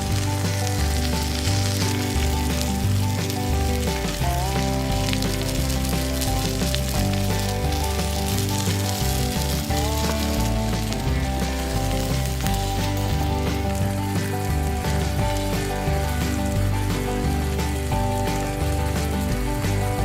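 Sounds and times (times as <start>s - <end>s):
background music with bass line: 0.0s - 20.0s
food sizzling on a grill: 0.0s - 20.0s.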